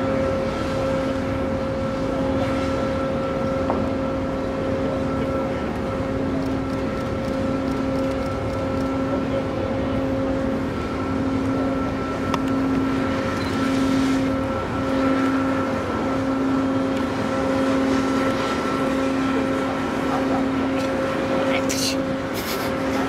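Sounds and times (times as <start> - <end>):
ship machinery humming: 0.0 - 23.0.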